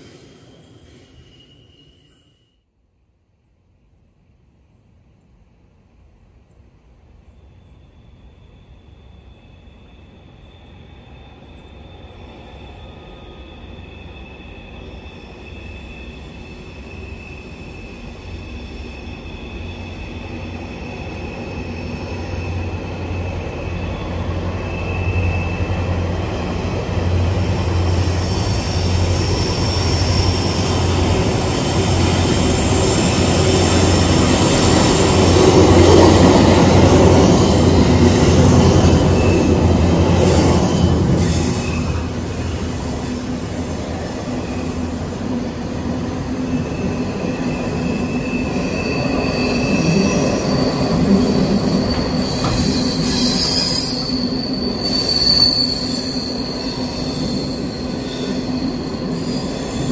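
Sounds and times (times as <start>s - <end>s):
high-pitched wheel squeal: 0.2s - 2.6s, 7.8s - 26.0s, 27.2s - 35.4s, 36.1s - 42.1s, 46.2s - 59.9s.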